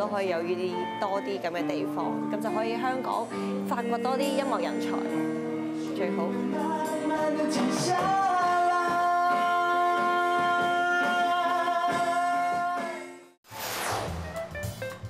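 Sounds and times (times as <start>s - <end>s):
live band music with singing: 0.0s - 13.2s.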